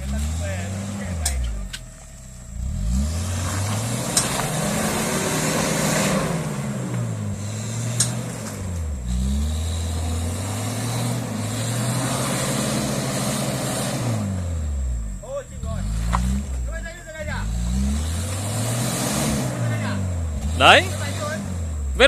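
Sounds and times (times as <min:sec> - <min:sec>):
car engine revving: 0:00.0 - 0:22.0
rough tyre and body noise: 0:00.0 - 0:22.0.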